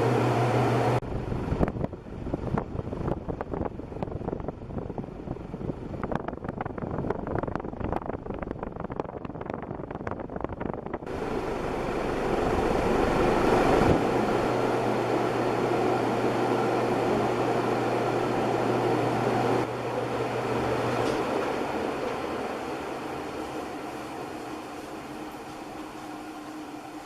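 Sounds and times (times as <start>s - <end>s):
ceiling fan air rush: 0.0s - 27.0s
low motor hum: 0.0s - 27.0s.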